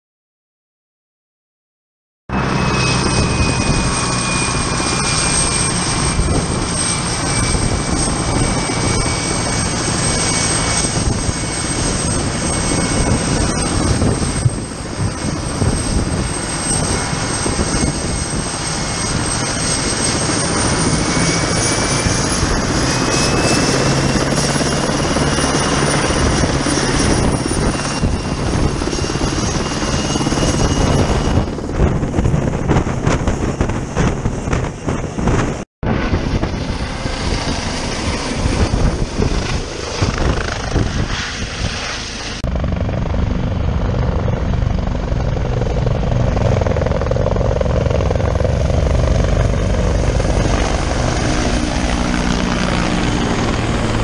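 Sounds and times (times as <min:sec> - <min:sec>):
helicopter engines and rotor: 0:02.3 - 0:54.0
high turbine whine: 0:02.3 - 0:54.0.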